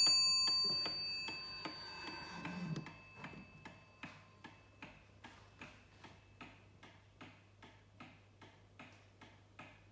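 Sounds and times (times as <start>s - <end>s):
mantel clock ticking: 0.0s - 9.9s.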